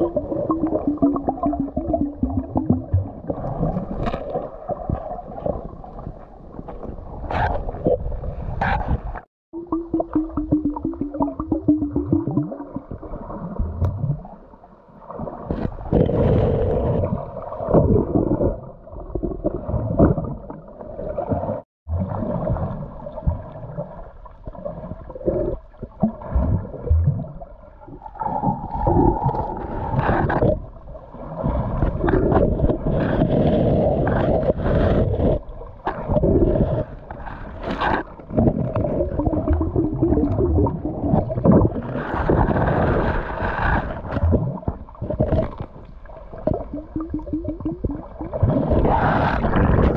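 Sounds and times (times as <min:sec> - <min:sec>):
muffled underwater rumbling and sloshing: 0:00.0 - 0:49.9.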